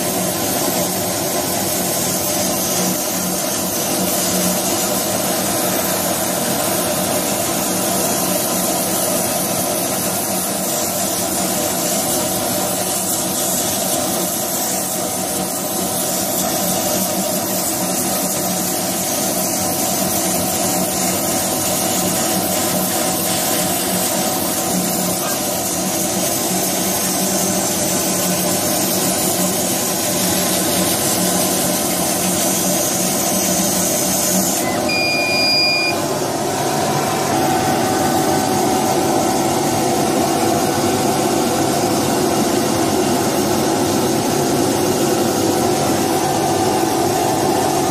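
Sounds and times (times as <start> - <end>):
laser cutter hissing and humming: 0.0 - 47.9.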